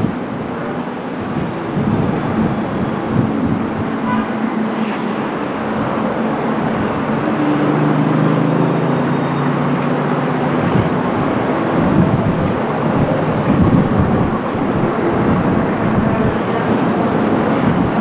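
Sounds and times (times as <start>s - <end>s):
jet engine hum: 0.0s - 18.0s
wide rushing noise: 0.0s - 18.0s.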